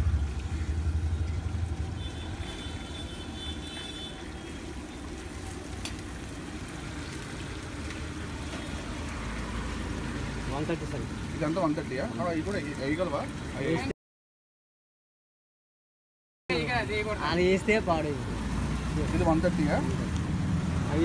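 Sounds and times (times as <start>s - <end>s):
street traffic rumble: 0.0s - 13.9s, 16.5s - 21.0s.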